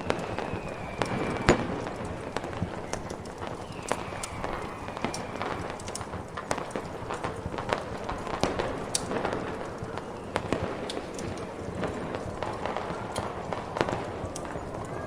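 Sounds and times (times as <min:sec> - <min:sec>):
fireworks popping and crackling: 0:00.0 - 0:15.0
rushing snowstorm wind: 0:00.0 - 0:15.0.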